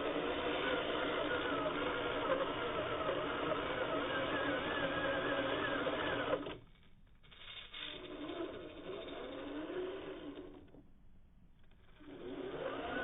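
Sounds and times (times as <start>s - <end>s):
small electric motor whining: 0.0s - 6.7s, 7.9s - 10.8s, 11.6s - 13.0s.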